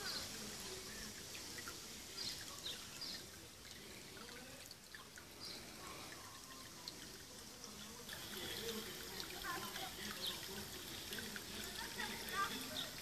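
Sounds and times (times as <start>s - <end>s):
drip-like splashes: 0.0s - 13.0s
fountain trickling and splashing: 0.0s - 13.0s.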